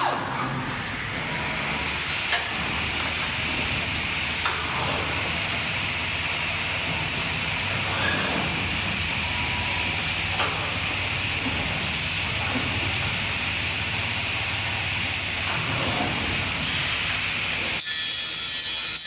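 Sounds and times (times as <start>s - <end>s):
machinery hum and hiss: 0.0s - 19.0s.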